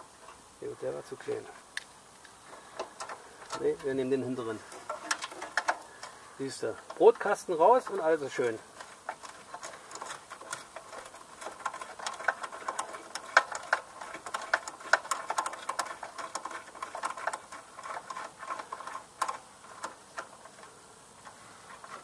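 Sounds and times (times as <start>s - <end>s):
hand tools clicking on metal: 2.5s - 22.0s.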